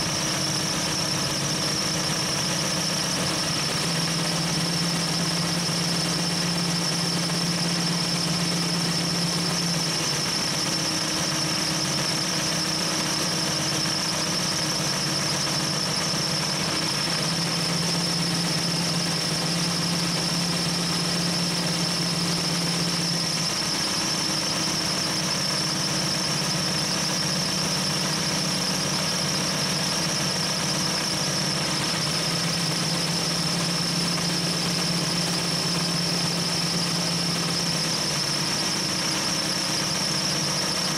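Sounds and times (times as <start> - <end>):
compressed air hissing and whistling: 0.0 - 40.9
engine running: 0.0 - 40.9.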